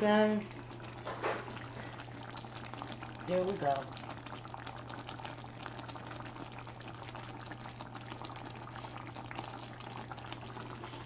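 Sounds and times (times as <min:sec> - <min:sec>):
gravy bubbling and popping: 0:00.0 - 0:11.0.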